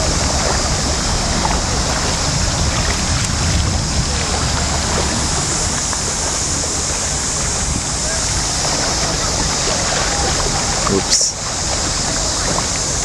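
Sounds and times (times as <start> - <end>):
river water rushing over weir: 0.0 - 13.0.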